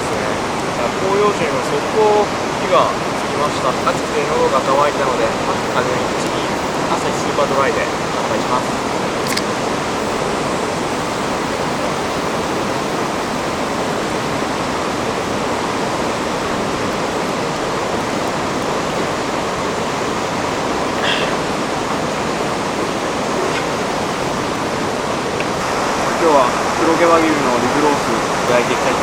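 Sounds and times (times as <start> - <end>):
river rushing over rocks: 0.0 - 29.0.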